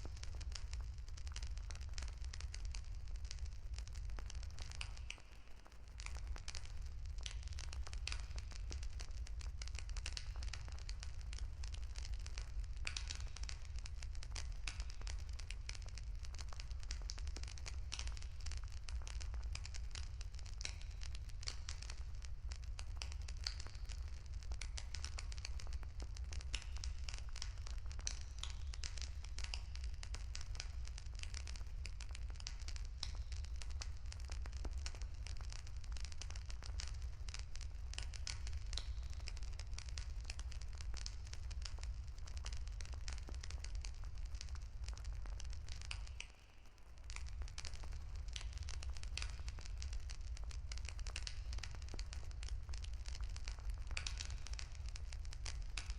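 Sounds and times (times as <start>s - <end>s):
bonfire crackling and popping: 0.0s - 55.9s.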